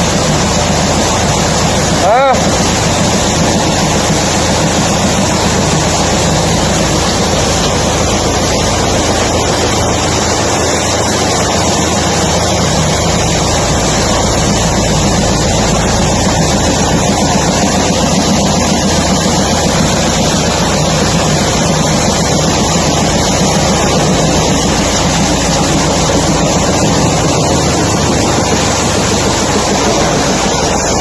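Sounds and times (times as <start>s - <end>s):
machine drone with hiss: 0.0s - 31.0s.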